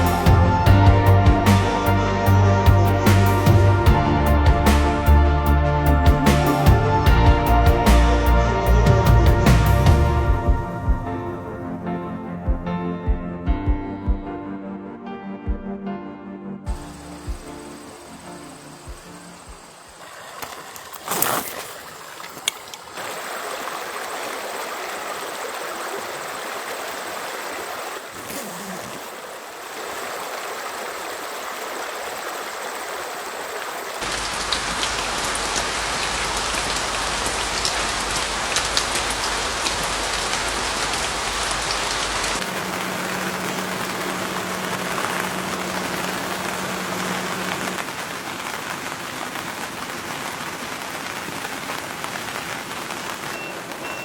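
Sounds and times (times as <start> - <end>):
steady rain falling: 0.0 - 11.0, 16.7 - 54.0.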